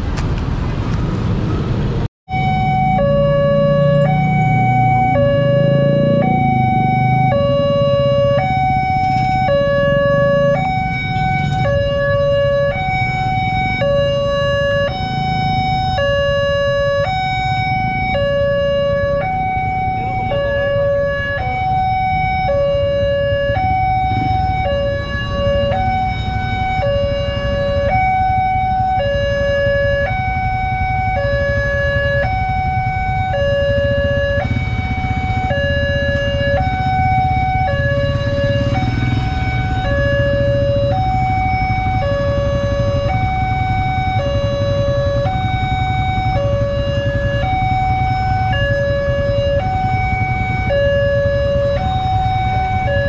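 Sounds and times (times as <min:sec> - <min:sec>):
idling cars and motorcycles: 0:00.0 - 0:53.0
level crossing two-tone alarm: 0:02.3 - 0:53.0.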